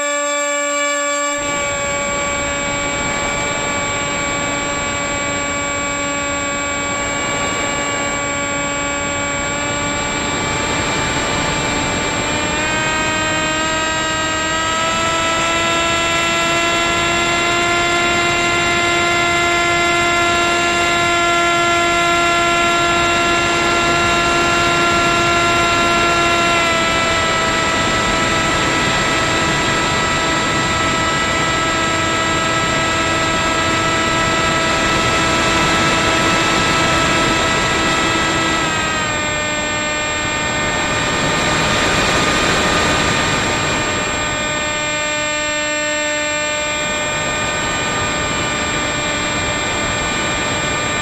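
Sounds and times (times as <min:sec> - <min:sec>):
electric motor propeller whine: 0:00.0 - 0:51.0.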